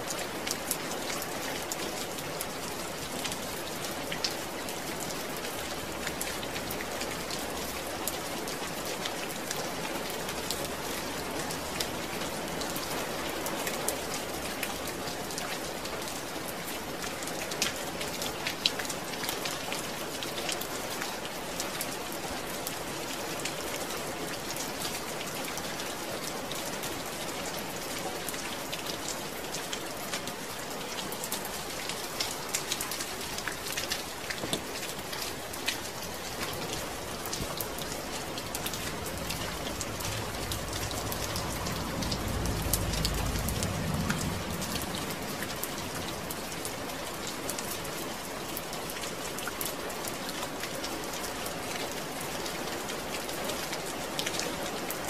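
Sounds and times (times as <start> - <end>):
rain falling: 0.0 - 55.0
raindrops ticking on a surface: 0.0 - 55.0.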